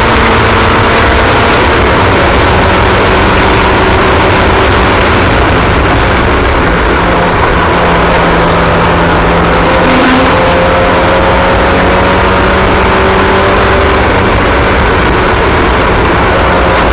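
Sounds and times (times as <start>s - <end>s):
race car engines running: 0.0s - 16.9s.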